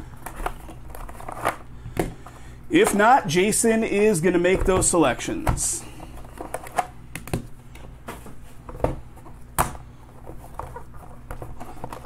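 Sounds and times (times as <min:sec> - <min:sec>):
hands handling card boxes: 0:00.0 - 0:12.0.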